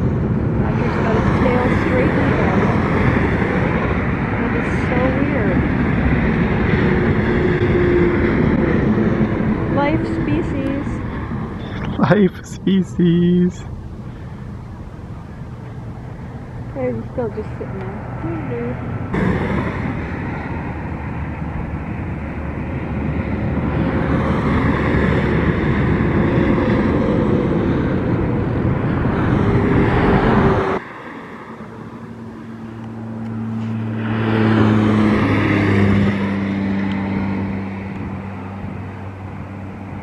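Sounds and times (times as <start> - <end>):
road traffic noise: 0.0 - 40.0
vehicle engine hum: 0.0 - 40.0.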